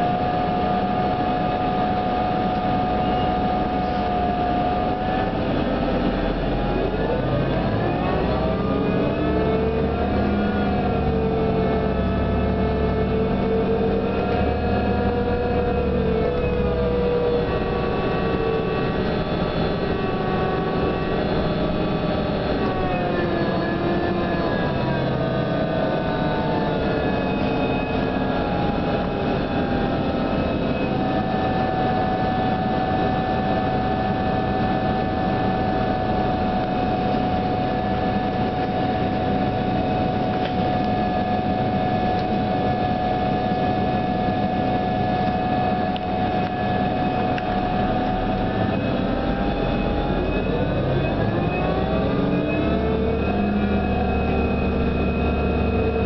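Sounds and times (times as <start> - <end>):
bus drivetrain whine: 0.0 - 56.0
bus running noise: 0.0 - 56.0.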